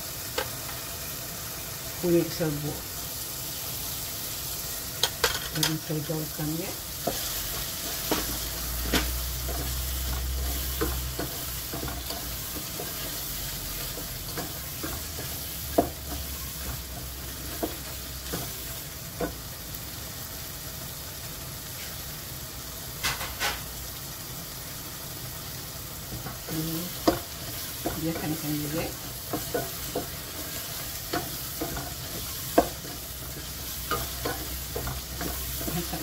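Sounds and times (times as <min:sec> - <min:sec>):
paste sizzling in oil: 0:00.0 - 0:36.0.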